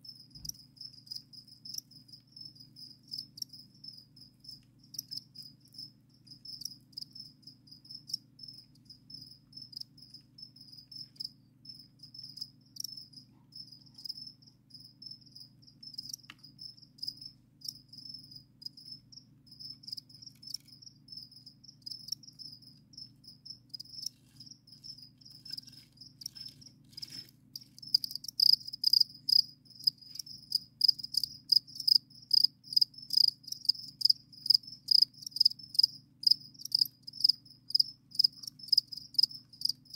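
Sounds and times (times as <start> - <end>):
crickets chirping: 0.0 - 39.9
loud close cricket chirping: 0.0 - 39.9.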